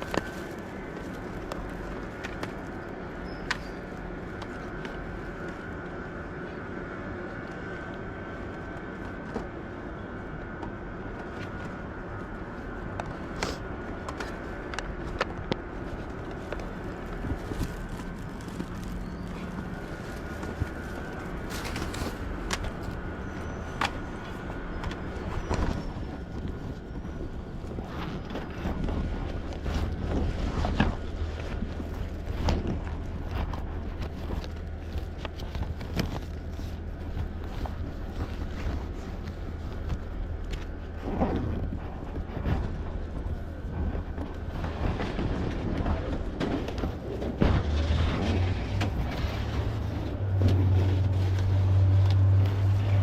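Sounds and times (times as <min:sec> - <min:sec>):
wind on microphone: 0:00.0 - 0:53.0.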